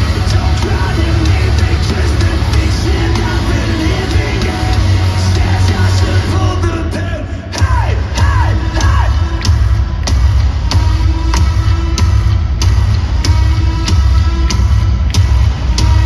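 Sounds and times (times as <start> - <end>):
metalcore band playing live: 0.0 - 16.0.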